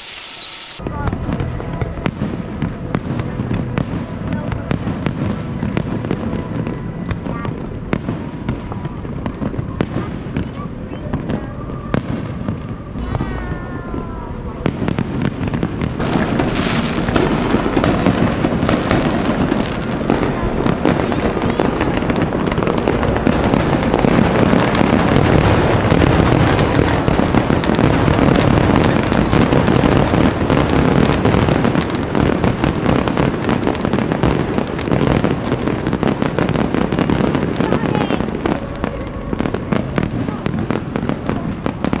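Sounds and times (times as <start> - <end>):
fireworks booms and crackles: 0.0 - 42.0.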